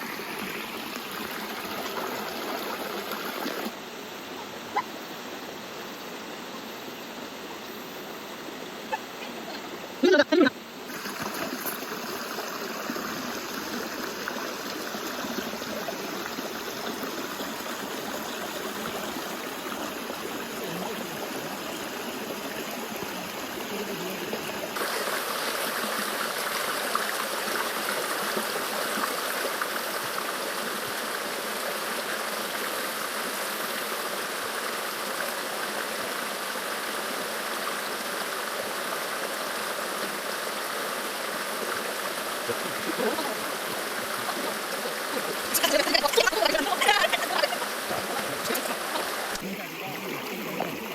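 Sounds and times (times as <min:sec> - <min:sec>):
stream water running over rocks: 0:00.0 - 0:50.9.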